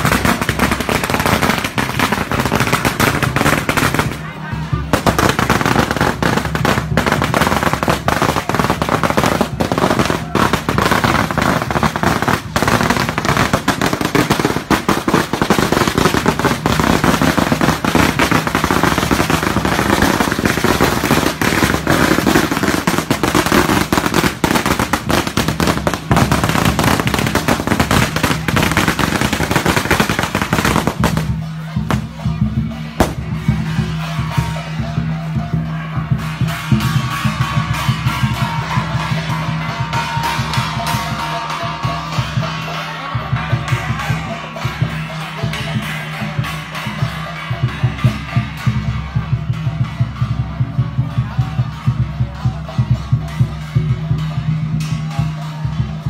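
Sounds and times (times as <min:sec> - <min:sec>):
firecrackers crackling: 0:00.0 - 0:56.0.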